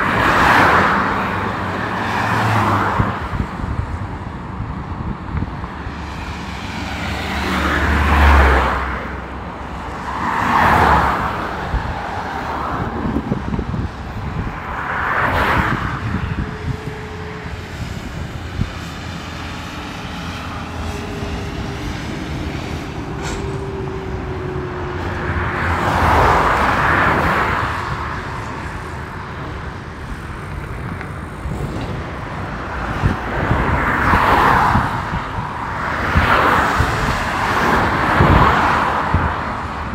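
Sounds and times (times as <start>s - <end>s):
traffic hum: 0.0s - 39.9s
vehicles passing with tyre noise: 0.0s - 39.9s.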